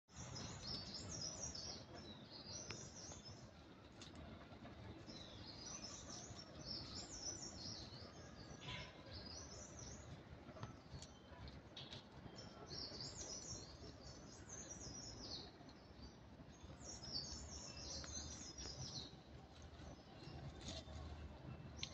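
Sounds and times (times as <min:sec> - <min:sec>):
small birds chirping: 0:00.1 - 0:21.9.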